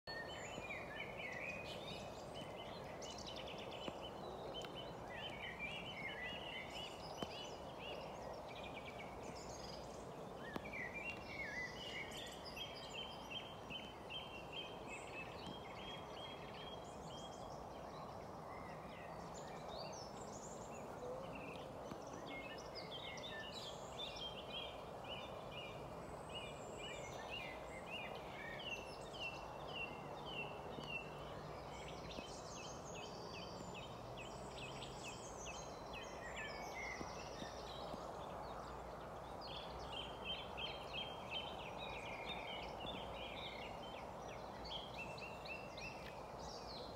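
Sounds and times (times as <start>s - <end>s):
small birds chirping: 0.1s - 46.9s.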